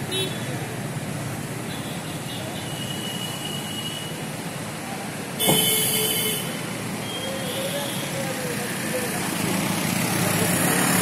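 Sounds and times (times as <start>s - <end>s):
vehicle road noise: 0.0s - 11.0s.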